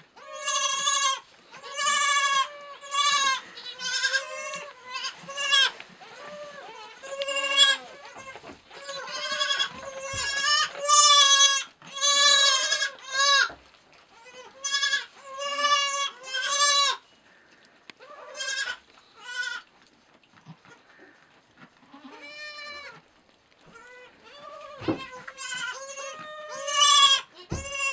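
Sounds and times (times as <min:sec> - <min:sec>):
goat kids bleating: 0:00.0 - 0:19.7, 0:20.4 - 0:27.9.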